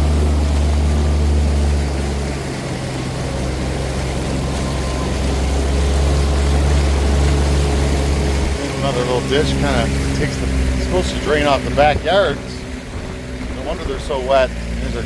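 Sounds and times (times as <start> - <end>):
rushing floodwater hiss: 0.0 - 15.0
vehicle engine humming: 0.0 - 15.0.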